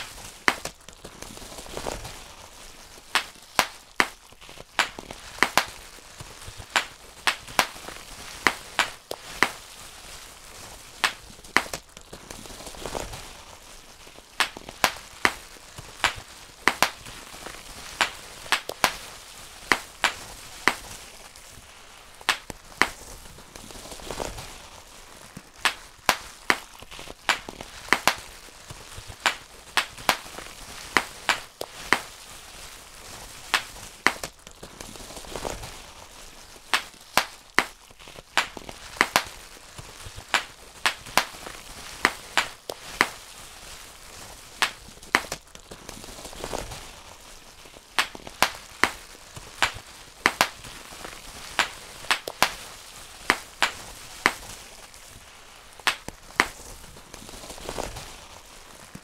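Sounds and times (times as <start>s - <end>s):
bubble wrap popping: 0.0s - 59.0s
plastic crinkling: 0.0s - 59.0s.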